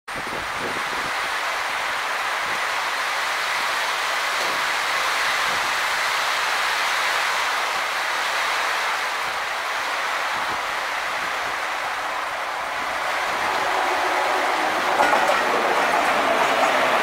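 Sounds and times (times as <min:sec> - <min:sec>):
approaching passenger train: 0:00.1 - 0:17.0
heavy rain hissing: 0:00.1 - 0:17.0.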